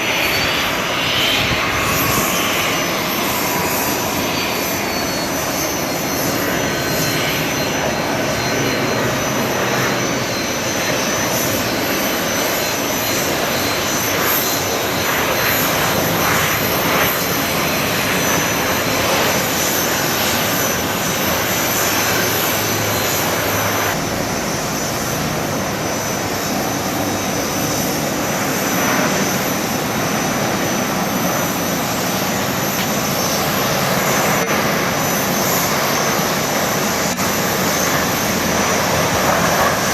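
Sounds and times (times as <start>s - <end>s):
faint high whines: 0.0s - 39.9s
jet engines rushing: 0.0s - 39.9s.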